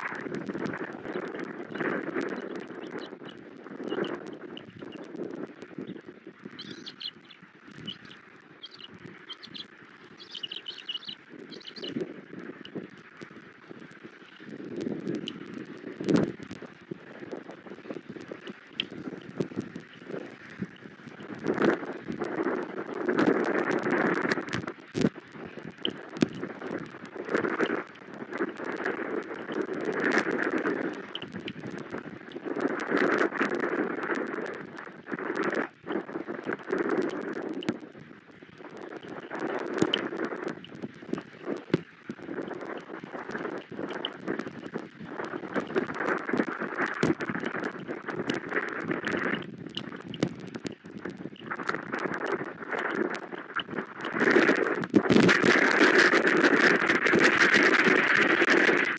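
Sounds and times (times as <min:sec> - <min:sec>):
rain falling: 0:00.0 - 0:58.9
wind gusting over microphone: 0:00.0 - 0:58.9.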